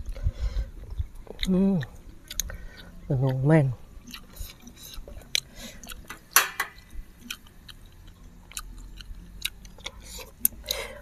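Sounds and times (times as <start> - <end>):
chewing and eating noodles: 0.0 - 6.1, 7.2 - 11.0.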